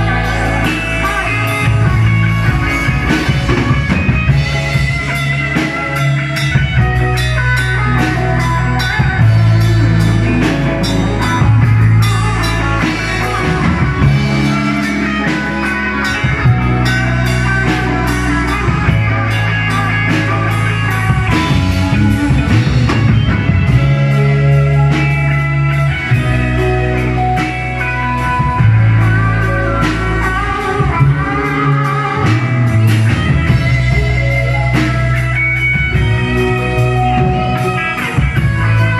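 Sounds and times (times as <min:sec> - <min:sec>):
bass notes: 0:00.0 - 0:38.9
drum kit beat: 0:00.0 - 0:38.9
electric guitar: 0:00.0 - 0:38.9.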